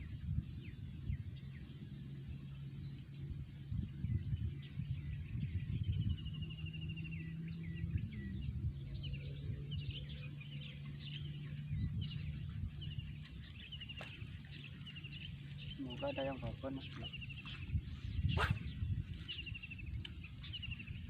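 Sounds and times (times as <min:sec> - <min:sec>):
birds chirping and trilling: 0:00.0 - 0:21.0
low hum and rumble: 0:00.0 - 0:21.0.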